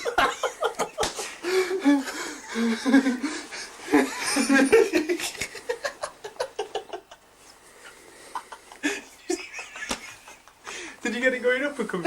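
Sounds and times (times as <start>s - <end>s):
men laughing: 0.0s - 7.3s, 8.2s - 10.8s.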